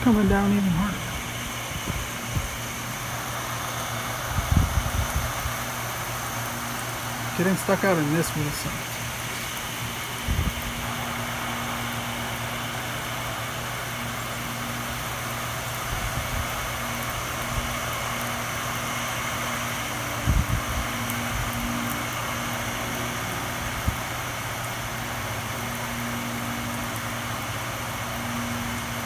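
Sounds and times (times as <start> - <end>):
heavy rain pouring: 0.0 - 29.0
steady low hum: 0.0 - 29.0.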